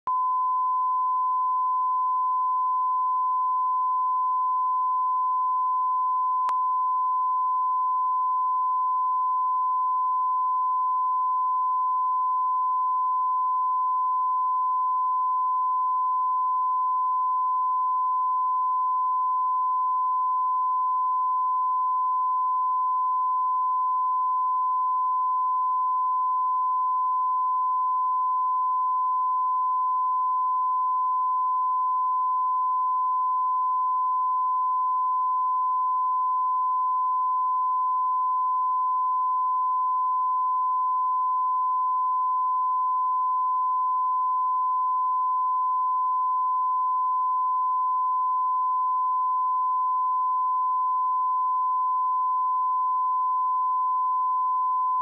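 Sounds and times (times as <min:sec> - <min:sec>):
steady sine-wave test tone: 0:00.0 - 0:55.0.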